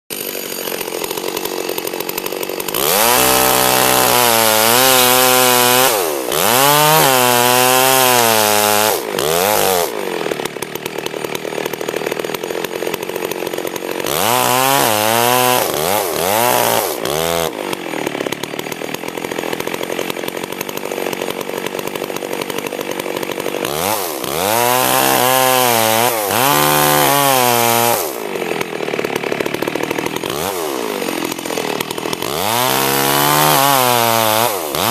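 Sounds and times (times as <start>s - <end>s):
chainsaw idling and revving: 0.1s - 34.9s.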